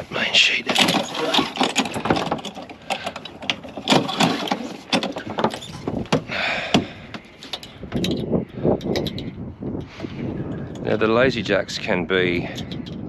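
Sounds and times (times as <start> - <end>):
rigging knocks and clicks: 0.2 - 11.1, 12.4 - 13.0.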